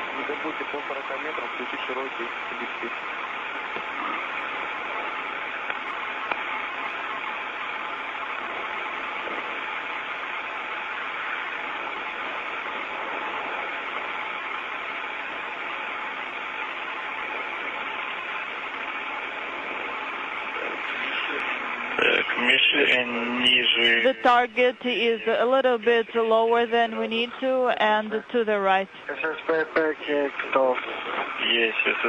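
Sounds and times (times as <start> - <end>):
radio hiss: 0.0 - 32.0.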